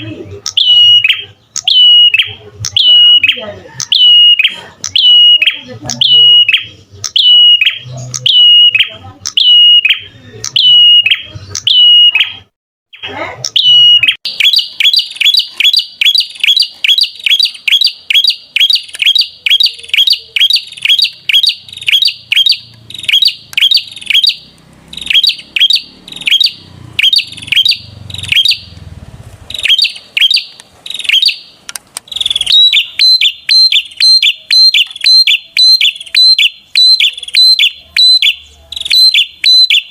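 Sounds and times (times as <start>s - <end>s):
bird singing high chirps: 0.0s - 28.9s, 29.5s - 39.9s.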